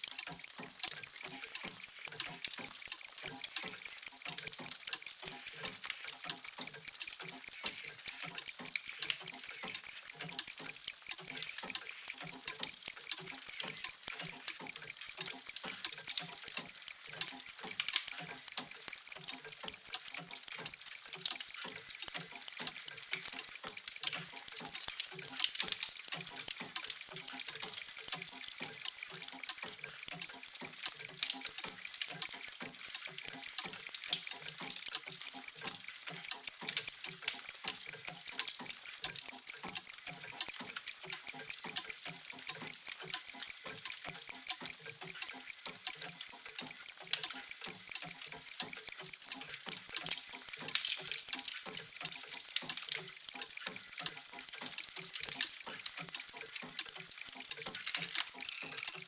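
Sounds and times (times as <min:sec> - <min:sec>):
mechanical clocks ticking: 0:00.0 - 0:59.0.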